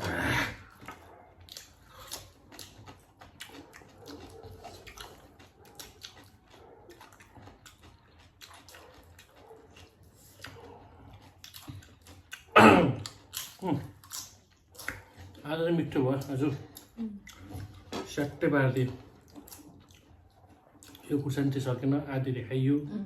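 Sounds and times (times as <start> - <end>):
people chewing and mouth-smacking: 0.0 - 23.0.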